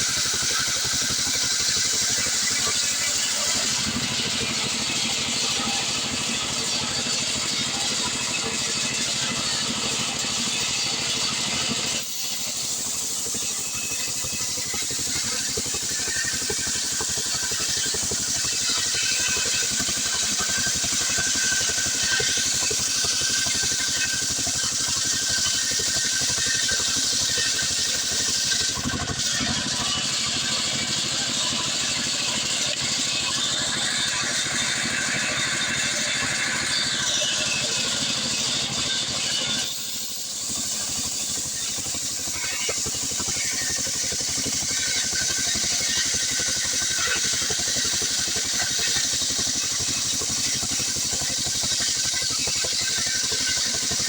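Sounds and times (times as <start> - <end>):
chainsaw sawing log: 0.0 - 6.2, 6.8 - 54.0.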